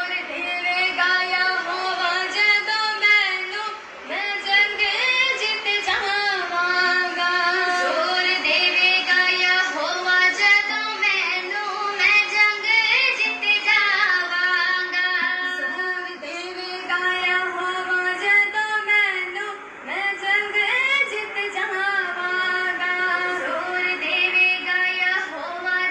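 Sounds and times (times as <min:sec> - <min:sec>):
person singing worship song: 0:00.0 - 0:25.9.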